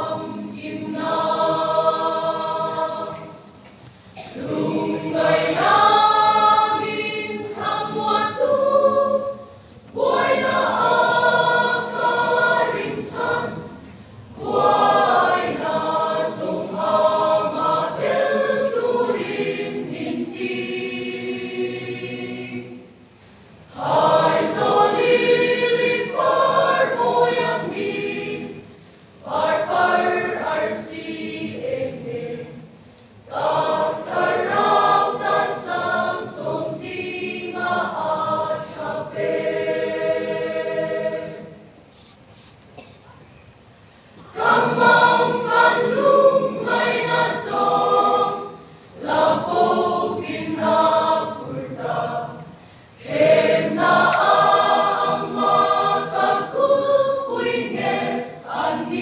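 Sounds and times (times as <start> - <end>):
choir singing a hymn: 0.0 - 42.2, 43.9 - 59.0.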